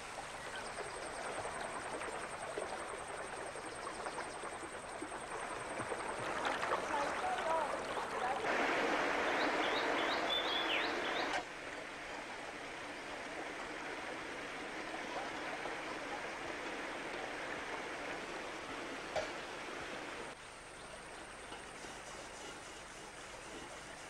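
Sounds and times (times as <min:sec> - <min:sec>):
stream splashing over rocks: 0:00.0 - 0:20.4.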